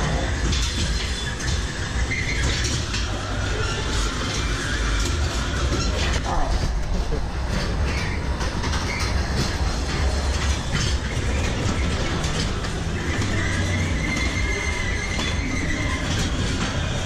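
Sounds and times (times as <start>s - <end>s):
high wheel squeal: 0.0s - 6.2s, 7.9s - 17.0s
ride car rumbling on track: 0.0s - 17.0s.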